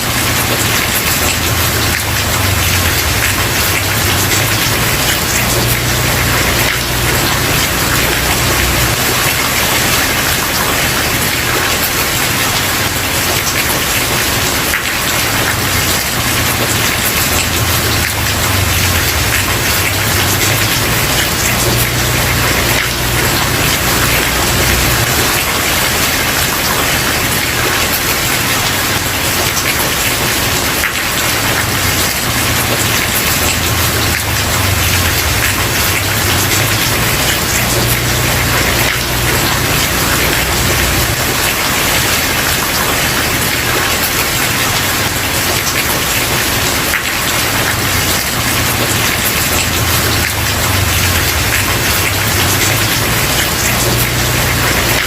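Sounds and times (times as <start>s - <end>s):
rain on a wooden porch: 0.0s - 55.0s.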